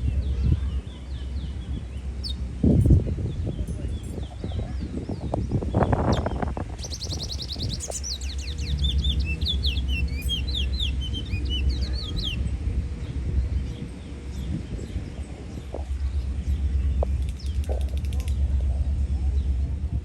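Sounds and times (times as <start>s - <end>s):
bird singing: 0.0s - 18.4s
steady low rumble: 0.0s - 20.0s.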